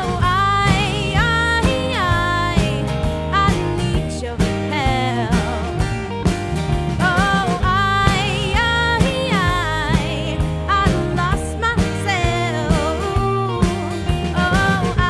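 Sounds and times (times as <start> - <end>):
woman singing with vibrato: 0.0 - 6.0, 6.9 - 15.0
acoustic and electric guitars: 0.0 - 15.0
drum kit with cymbals: 0.0 - 15.0.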